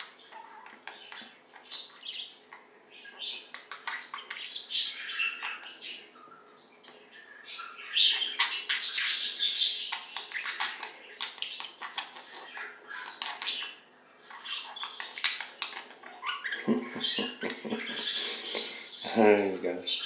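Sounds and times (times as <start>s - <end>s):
budgerigars chattering and warbling: 0.0s - 6.5s, 7.2s - 20.0s.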